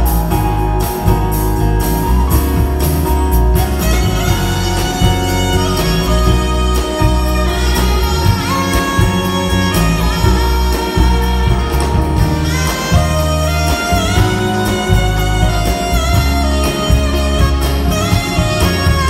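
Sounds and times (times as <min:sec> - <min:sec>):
bass: 0:00.0 - 0:19.0
drums: 0:00.0 - 0:19.0
keyboards: 0:00.0 - 0:19.0
saxophone solo: 0:00.0 - 0:19.0.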